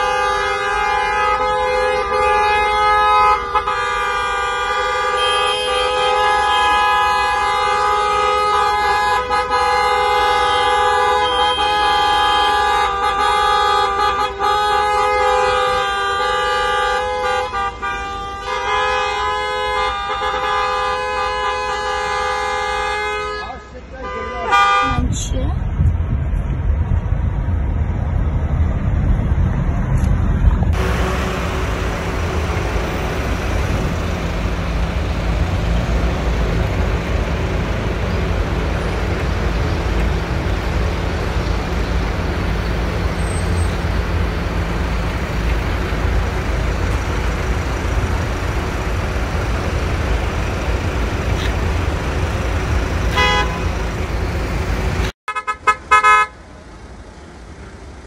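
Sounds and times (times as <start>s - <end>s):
car horn honking: 0.0s - 25.2s, 30.8s - 45.4s, 48.5s - 54.0s, 55.3s - 56.4s
car engine and road rumble: 0.0s - 58.0s.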